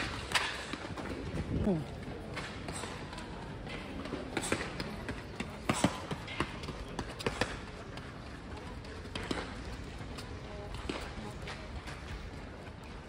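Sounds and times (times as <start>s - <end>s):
running footsteps on track: 0.0s - 13.0s.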